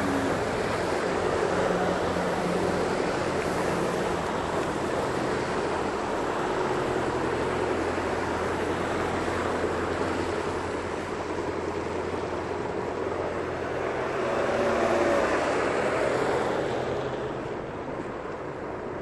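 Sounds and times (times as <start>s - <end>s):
traffic on a wet road: 0.0s - 19.0s.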